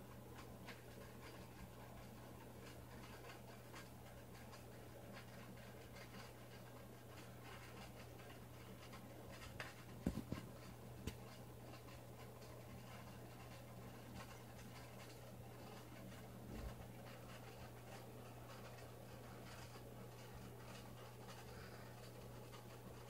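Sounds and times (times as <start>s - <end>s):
aquarium equipment humming: 0.0s - 23.0s.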